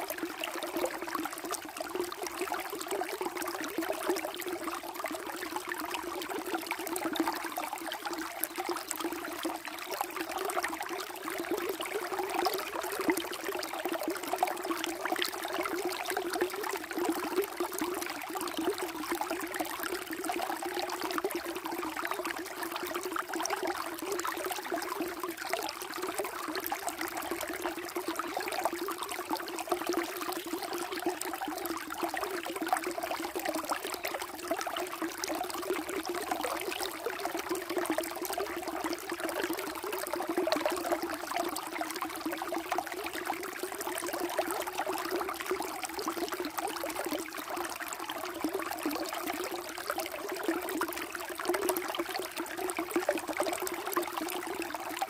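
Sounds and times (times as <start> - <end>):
water flowing and trickling: 0.0 - 55.0.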